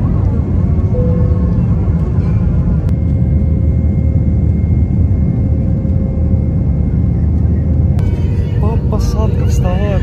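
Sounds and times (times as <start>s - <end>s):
jet engines rumbling with whine: 0.0s - 10.0s.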